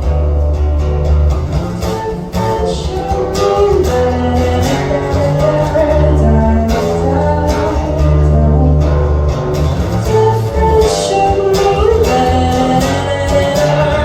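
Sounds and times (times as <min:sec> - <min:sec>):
bass notes: 0:00.0 - 0:14.0
guitar: 0:00.0 - 0:14.0
person singing: 0:01.7 - 0:14.0.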